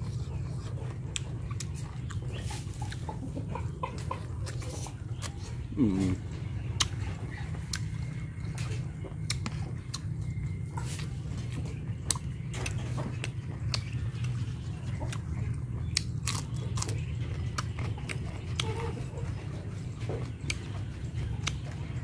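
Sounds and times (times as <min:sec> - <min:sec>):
man chewing with wet smacks: 0:00.0 - 0:22.0
steady low hum: 0:00.0 - 0:22.0.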